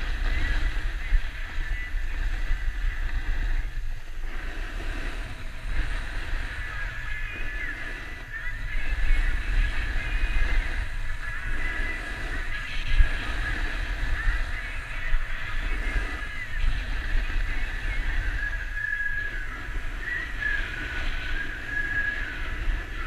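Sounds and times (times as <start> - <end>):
skis scraping on snow: 0.0 - 23.0
wind buffeting microphone: 0.0 - 23.0.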